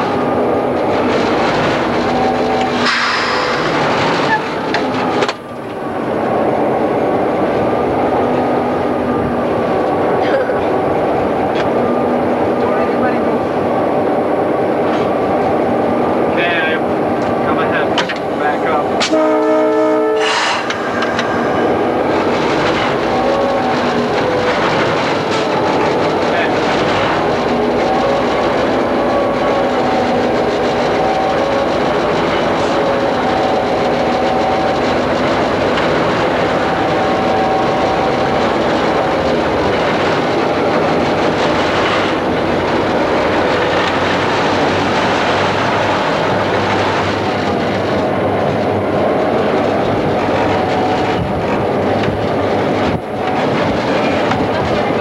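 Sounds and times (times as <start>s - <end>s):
diesel locomotive engine running: 0.0s - 55.0s
train rumbling on rails: 0.0s - 55.0s.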